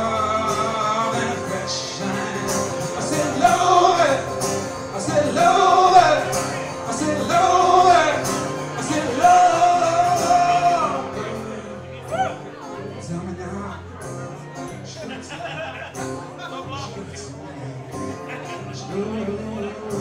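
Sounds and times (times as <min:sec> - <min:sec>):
man singing long notes: 0:00.0 - 0:13.8, 0:16.5 - 0:20.0
acoustic guitar strumming: 0:00.0 - 0:20.0.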